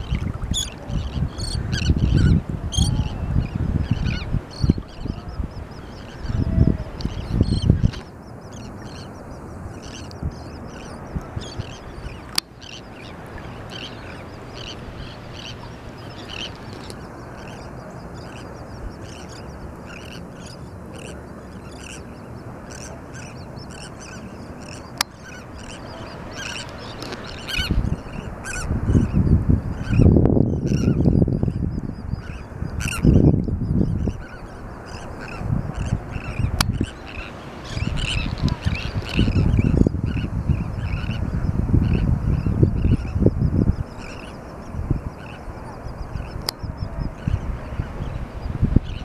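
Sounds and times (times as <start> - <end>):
seabirds calling: 0.0 - 49.0.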